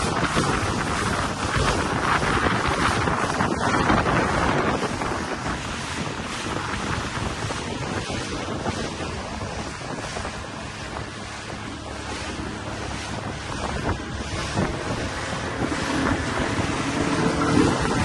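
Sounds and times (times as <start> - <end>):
outboard motor running: 0.0 - 18.0
water rushing past hull: 0.0 - 18.0
wind buffeting microphone: 0.0 - 18.0.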